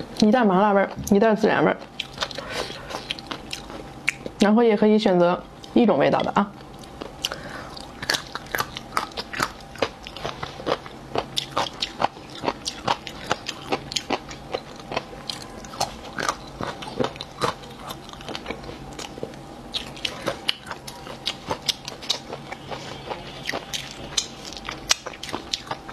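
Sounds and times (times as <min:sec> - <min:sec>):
crunching and chewing bones: 0:01.8 - 0:04.4, 0:06.6 - 0:25.9.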